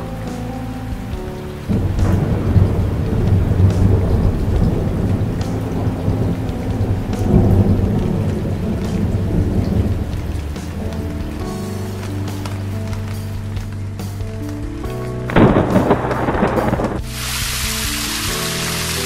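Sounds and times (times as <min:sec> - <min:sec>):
heavy rain: 0:00.0 - 0:19.0
rolling thunder: 0:01.0 - 0:18.7.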